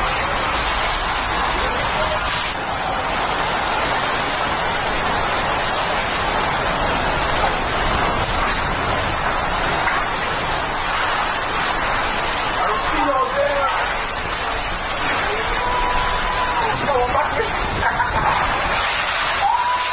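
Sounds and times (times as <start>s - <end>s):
heavy rain: 0.0s - 19.9s
hurricane wind: 0.0s - 19.9s.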